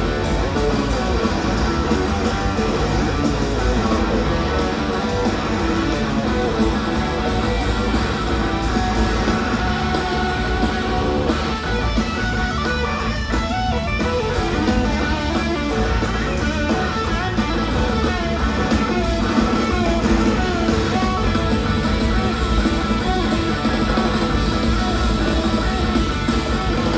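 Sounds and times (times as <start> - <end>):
bass guitar: 0.0 - 26.9
drums: 0.0 - 26.9
electric guitar lead: 0.0 - 26.9
organ: 0.0 - 26.9.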